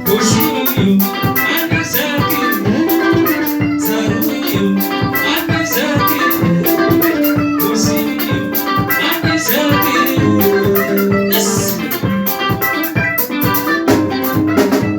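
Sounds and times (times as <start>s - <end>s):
live band music: 0.0s - 14.9s.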